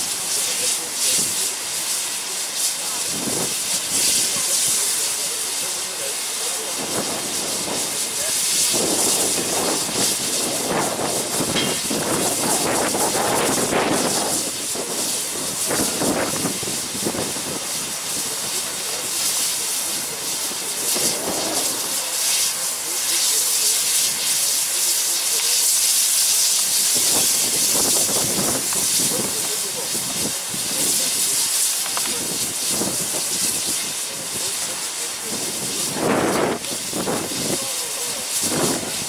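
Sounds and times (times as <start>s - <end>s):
steam hissing from locomotive: 0.0s - 39.0s.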